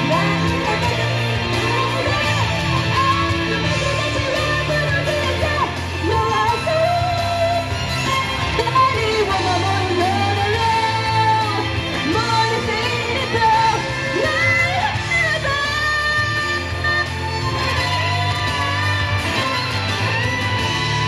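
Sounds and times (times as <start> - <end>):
person singing into microphone: 0.0 - 20.8
pop backing track: 0.0 - 21.0.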